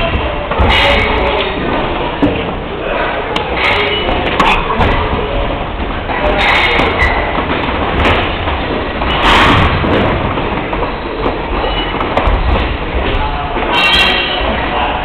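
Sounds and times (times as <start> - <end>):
loud rumbling noise: 0.0 - 15.0.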